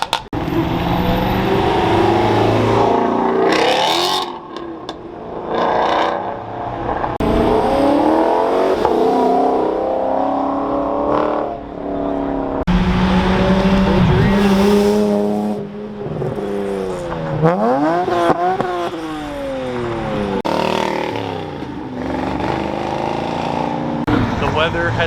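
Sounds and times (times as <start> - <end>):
car engines accelerating hard: 0.4 - 25.0.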